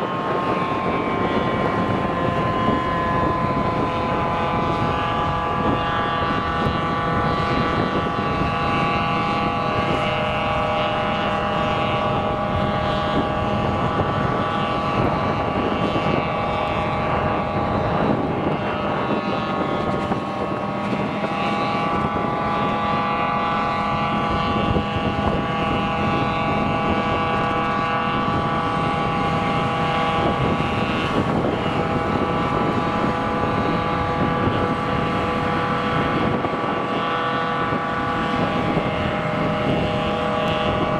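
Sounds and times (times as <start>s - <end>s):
diesel farm machinery rumbling: 0.0s - 40.9s
steady machine whine: 0.0s - 40.9s.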